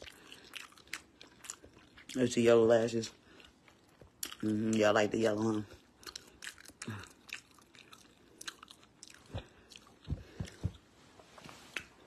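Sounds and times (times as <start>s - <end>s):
wet chewing clicks and smacks: 0.0s - 2.6s, 3.2s - 10.7s.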